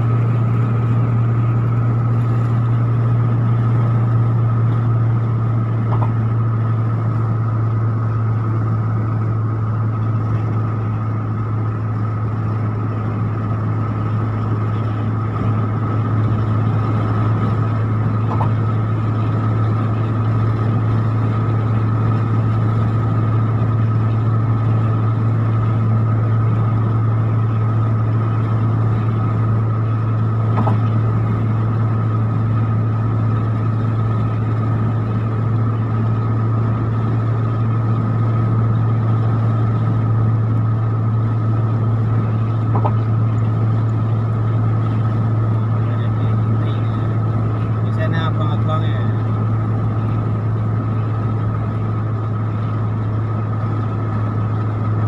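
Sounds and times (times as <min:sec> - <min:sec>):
faint steady whine: 0:00.0 - 0:55.0
vehicle engine drone: 0:00.0 - 0:55.0.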